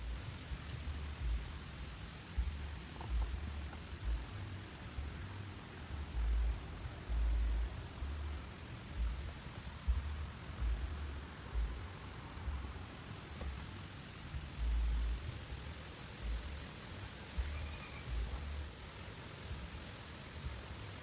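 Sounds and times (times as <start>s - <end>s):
heavy rain hissing: 0.0s - 21.0s
low rumbles: 0.0s - 21.0s.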